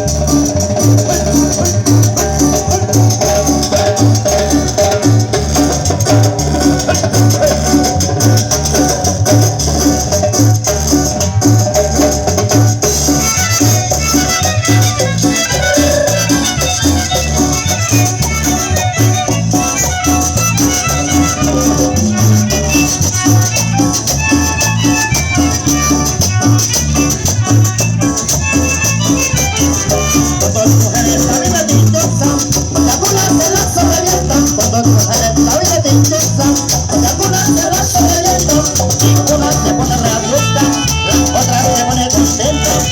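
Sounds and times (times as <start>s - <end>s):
live cumbia band playing: 0.0s - 42.9s
rattling shaker percussion: 0.0s - 42.9s.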